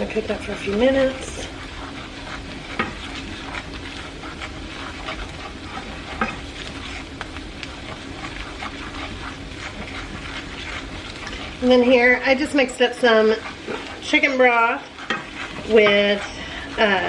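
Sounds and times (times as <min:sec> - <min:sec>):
faint steady hum: 0:00.0 - 0:17.0
roux sizzling in a hot pan: 0:00.0 - 0:17.0
utensil scraping against pan: 0:00.0 - 0:17.0.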